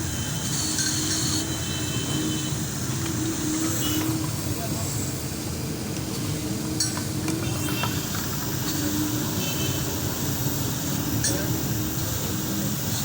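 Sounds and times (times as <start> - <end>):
engine running low: 0.0 - 13.0
hiss: 0.0 - 13.0.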